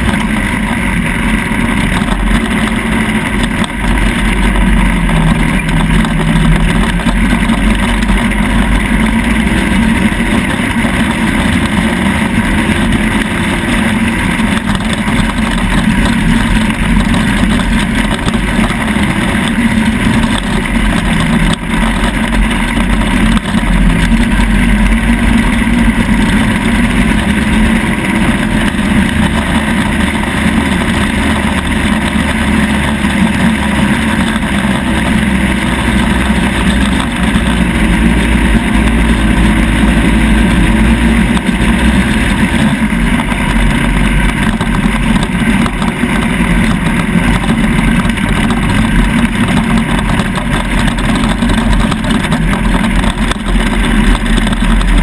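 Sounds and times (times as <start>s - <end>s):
atv engine running: 0.0s - 55.0s
wind noise on microphone: 0.0s - 55.0s.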